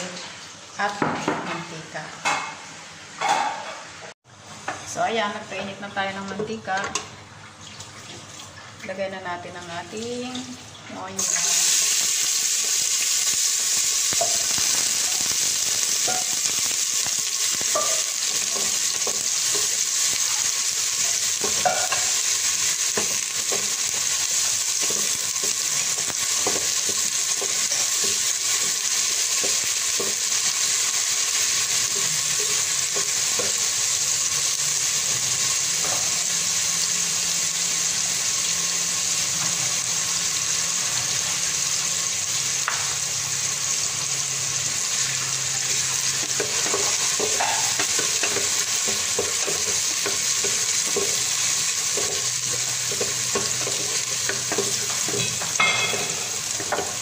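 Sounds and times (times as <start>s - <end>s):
onion sizzling in oil: 9.7s - 57.0s.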